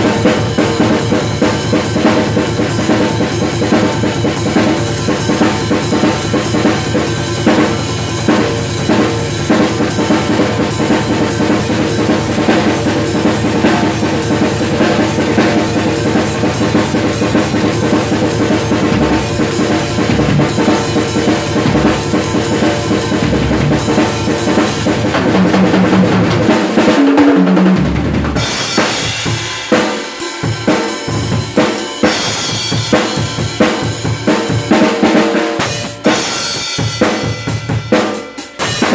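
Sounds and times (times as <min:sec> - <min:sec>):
cymbals: 0:00.0 - 0:27.2, 0:28.4 - 0:38.9.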